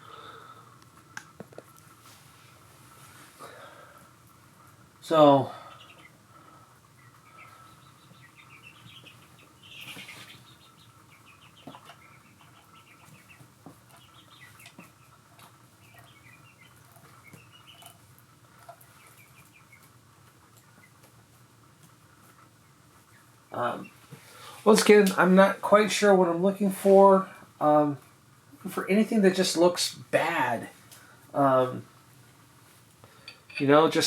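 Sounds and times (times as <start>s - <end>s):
faint bird chirping: 0.0s - 29.0s.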